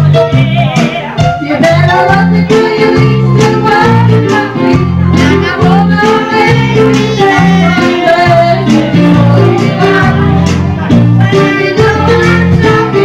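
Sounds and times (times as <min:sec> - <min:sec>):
electronic keyboard playing: 0:00.0 - 0:13.0.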